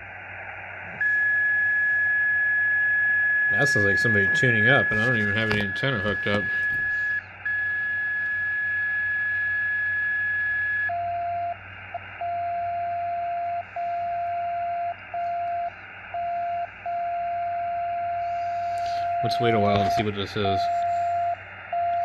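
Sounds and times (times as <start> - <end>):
receiver hiss: 0.0 - 22.0
whistle-like radio carrier tone: 0.4 - 22.0.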